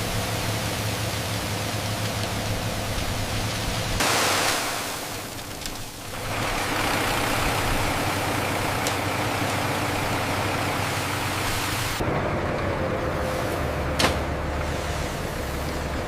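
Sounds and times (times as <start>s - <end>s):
broad hiss: 0.0s - 8.2s, 9.4s - 12.0s, 13.2s - 15.9s
engine running: 0.0s - 16.0s.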